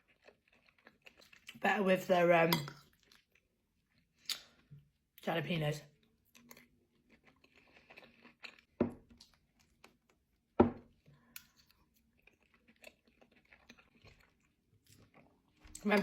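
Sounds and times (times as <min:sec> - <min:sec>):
person chewing food: 0:00.0 - 0:01.6, 0:02.6 - 0:04.7, 0:06.0 - 0:15.8.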